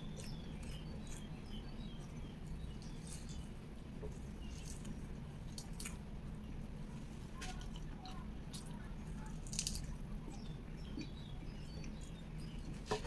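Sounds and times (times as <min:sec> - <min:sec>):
close chewing of food: 0:00.0 - 0:13.0
steady low hum: 0:00.0 - 0:13.0.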